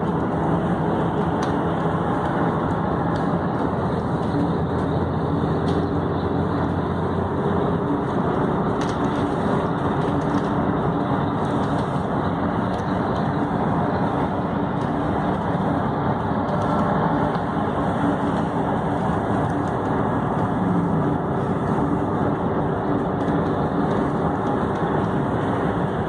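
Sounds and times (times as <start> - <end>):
low engine hum: 0.0 - 26.0
tyres rumbling on road: 0.0 - 26.0.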